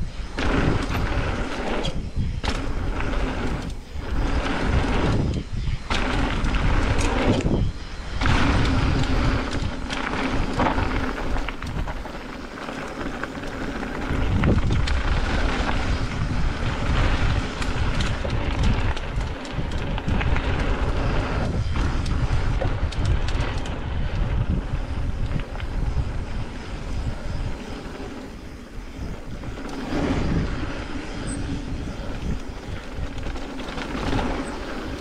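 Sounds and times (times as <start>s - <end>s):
bike tyres rumbling on dirt: 0.0s - 35.0s
bike clicks and knocks: 0.3s - 35.0s.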